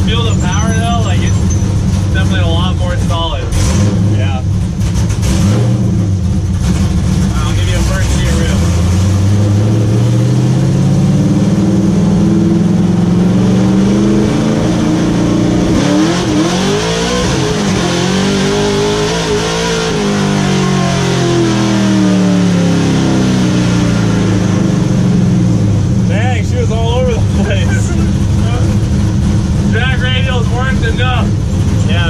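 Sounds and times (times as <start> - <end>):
truck engine revving: 0.0 - 32.0.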